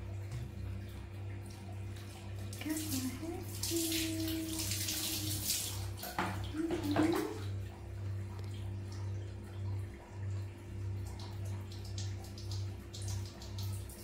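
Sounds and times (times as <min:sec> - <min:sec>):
steady low hum: 0:00.0 - 0:14.0
water dripping: 0:00.0 - 0:14.0.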